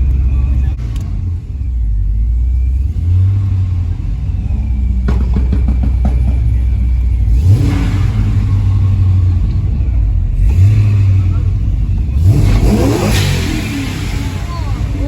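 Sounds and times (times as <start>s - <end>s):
car engine rumbling: 0.0s - 15.0s
engine crackles: 0.0s - 15.0s.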